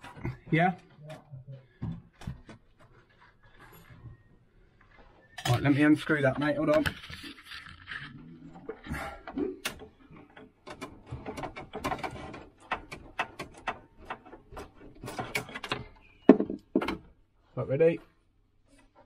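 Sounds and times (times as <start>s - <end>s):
rods clicking and scraping: 0.0s - 17.0s.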